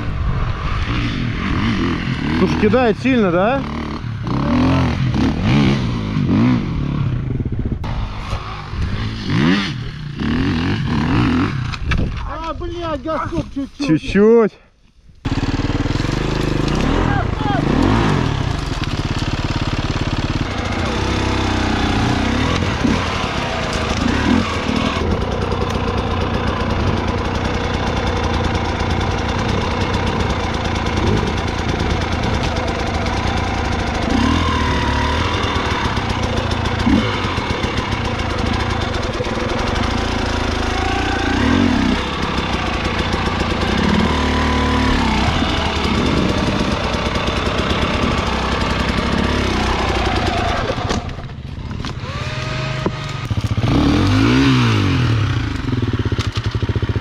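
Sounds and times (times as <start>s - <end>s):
vehicle engine revving: 0.0s - 11.8s, 15.3s - 57.0s.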